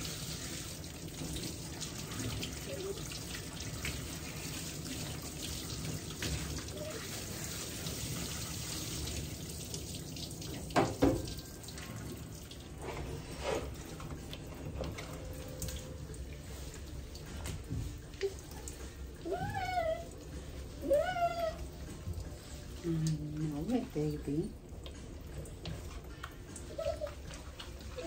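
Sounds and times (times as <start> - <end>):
hose spraying water: 0.0 - 10.0, 12.7 - 28.0
water dripping: 0.0 - 12.8, 13.7 - 28.0.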